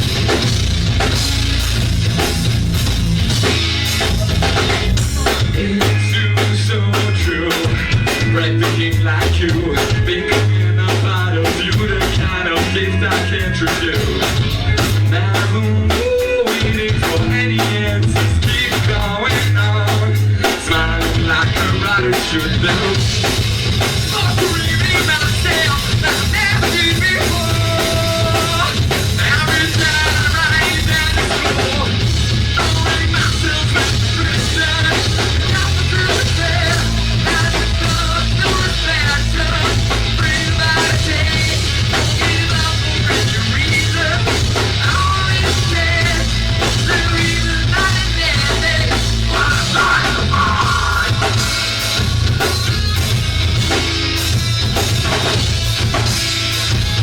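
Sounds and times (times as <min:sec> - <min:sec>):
rock band playing: 0:00.0 - 0:57.0
person singing: 0:04.0 - 0:23.1, 0:24.1 - 0:52.6.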